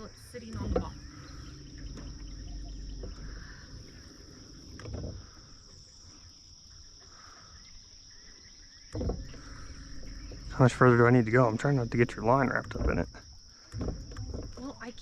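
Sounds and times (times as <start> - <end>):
insects trilling: 0.0 - 15.0
low wind rumble: 0.0 - 15.0.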